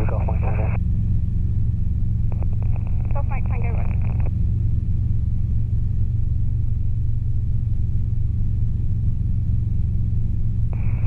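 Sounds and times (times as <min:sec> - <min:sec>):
helicopter engine and rotors droning: 0:00.0 - 0:11.0.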